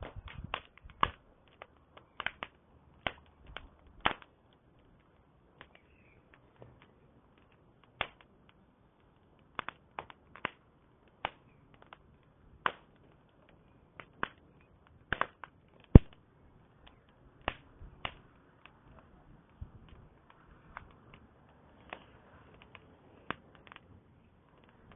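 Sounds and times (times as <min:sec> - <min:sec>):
campfire crackling and popping: 0:00.0 - 0:24.9.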